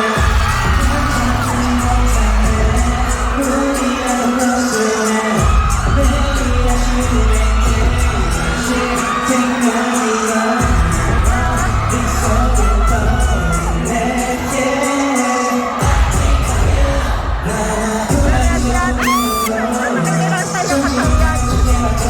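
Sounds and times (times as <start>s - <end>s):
man singing: 0.0s - 22.0s
pop backing track with heavy bass: 0.0s - 22.0s.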